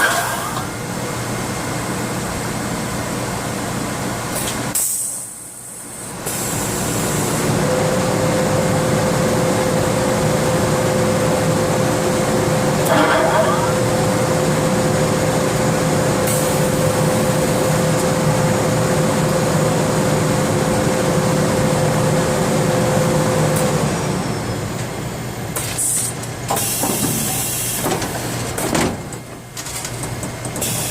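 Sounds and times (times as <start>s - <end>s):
mechanical hum: 0.0s - 30.9s.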